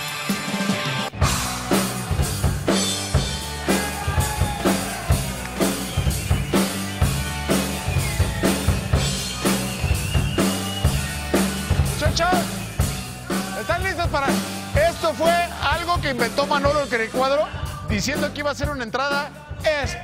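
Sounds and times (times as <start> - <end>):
upbeat music with drum beat: 0.0 - 20.0.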